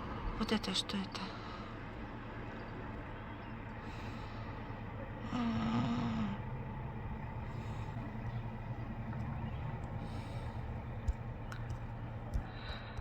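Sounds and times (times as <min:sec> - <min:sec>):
low outdoor rumble: 0:00.0 - 0:13.0
wavering hum: 0:00.0 - 0:13.0.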